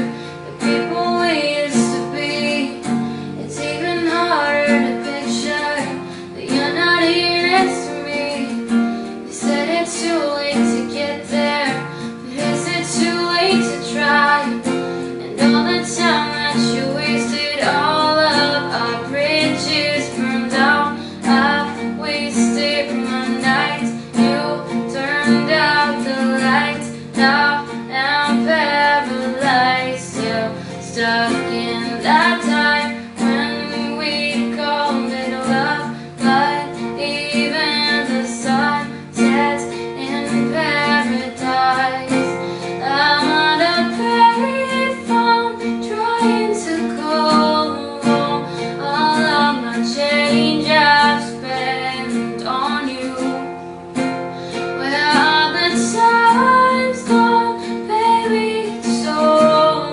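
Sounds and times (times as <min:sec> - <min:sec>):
strummed acoustic guitar: 0:00.0 - 0:59.9
woman singing pop song: 0:00.0 - 0:59.9.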